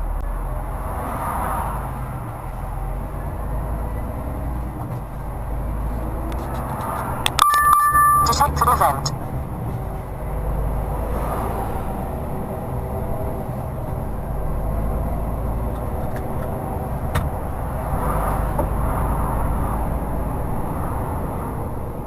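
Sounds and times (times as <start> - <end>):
truck engine and road rumble: 0.0 - 22.0.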